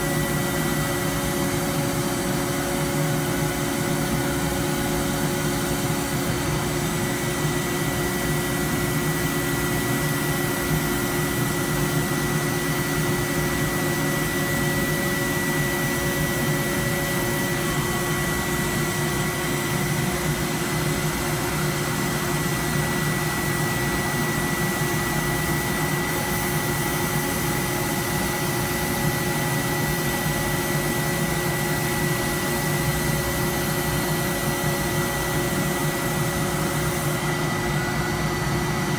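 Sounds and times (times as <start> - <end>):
industrial machinery hum and whine: 0.0 - 38.9.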